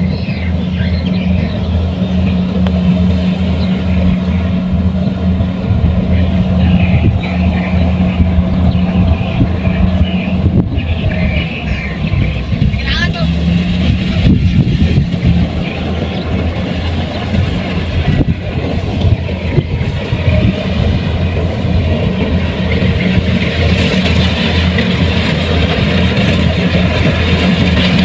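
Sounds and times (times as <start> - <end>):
combine harvester engine humming: 0.0 - 28.0
mechanical rushing noise: 0.0 - 28.0.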